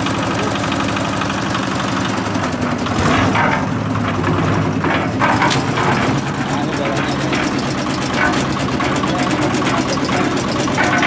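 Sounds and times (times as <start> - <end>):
cement mixer diesel engine running: 0.0 - 11.0.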